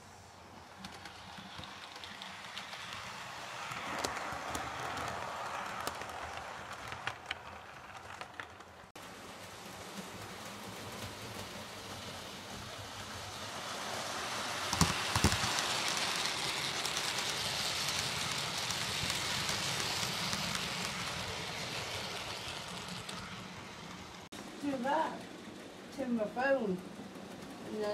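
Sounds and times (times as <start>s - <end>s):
model train wheels rolling: 0.0s - 27.9s.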